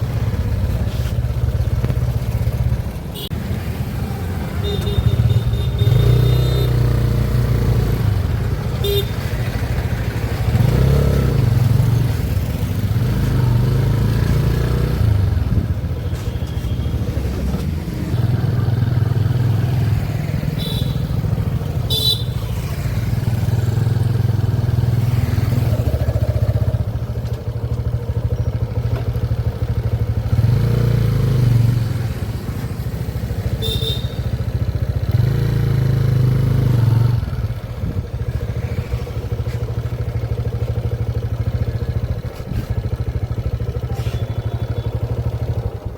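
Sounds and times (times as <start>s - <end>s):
road noise: 0.0s - 45.9s
vehicle engine running: 0.0s - 45.9s.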